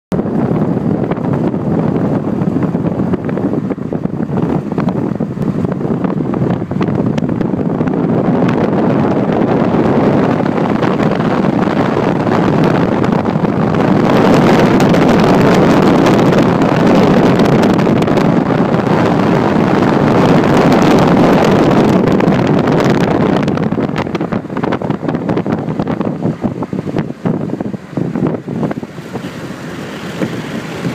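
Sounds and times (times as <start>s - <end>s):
road noise: 0.1s - 30.9s
vehicle engine: 0.1s - 30.9s
wind buffeting microphone: 0.1s - 30.9s.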